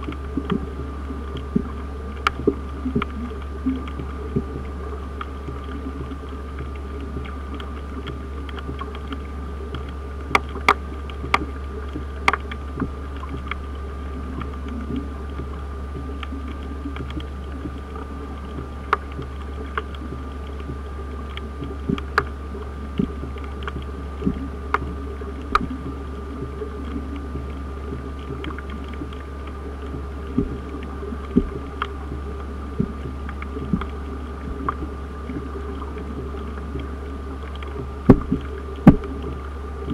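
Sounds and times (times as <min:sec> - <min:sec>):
faint constant tone: 0:00.0 - 0:39.9
low underwater hum: 0:00.0 - 0:39.9
sharp underwater clicks: 0:00.0 - 0:39.9.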